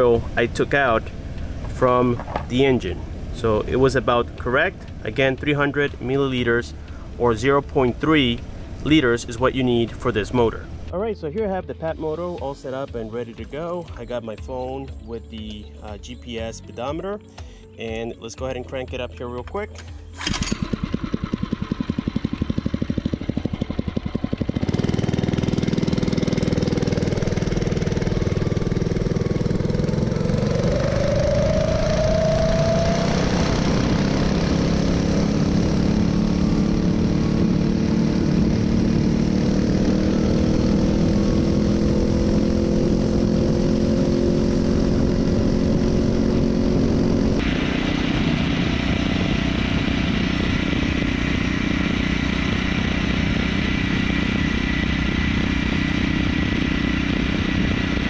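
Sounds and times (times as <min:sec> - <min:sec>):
small engine running: 0:00.0 - 0:10.9, 0:19.8 - 0:58.0.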